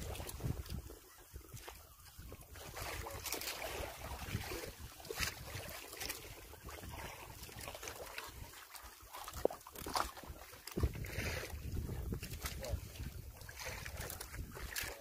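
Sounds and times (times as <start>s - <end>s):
wind buffeting microphone: 0.0s - 8.6s, 9.8s - 15.0s
water lapping against boat hull: 0.0s - 15.0s.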